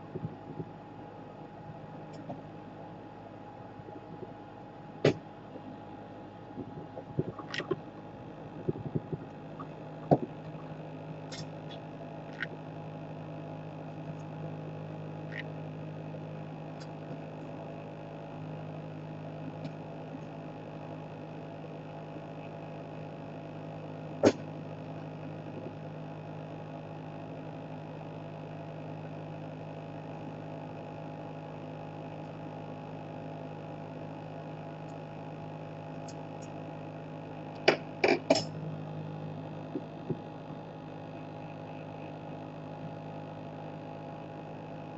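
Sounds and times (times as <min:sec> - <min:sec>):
steady electrical hum: 0:00.0 - 0:44.9.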